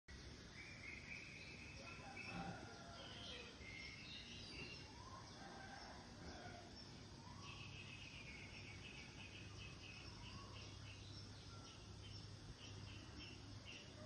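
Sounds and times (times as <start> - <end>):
birds chirping: 0.1 - 14.0
low outdoor background noise: 0.1 - 14.0.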